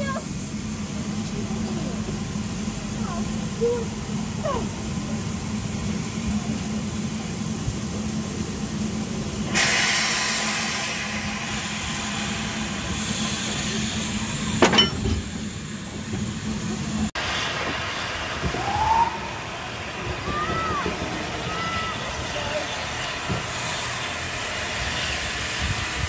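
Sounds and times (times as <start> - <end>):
loud steam hiss: 0.0 - 26.0
steam train rumbling: 0.0 - 26.0.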